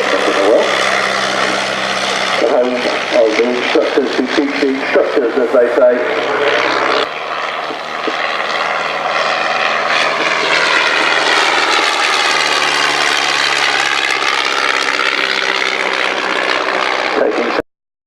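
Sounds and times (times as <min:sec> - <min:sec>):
propeller aircraft flying overhead: 0:00.0 - 0:17.6.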